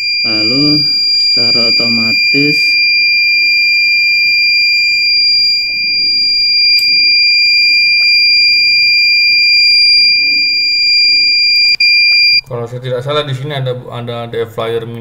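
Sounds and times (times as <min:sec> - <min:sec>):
high-pitched alarm buzzer tone: 0:00.0 - 0:12.4.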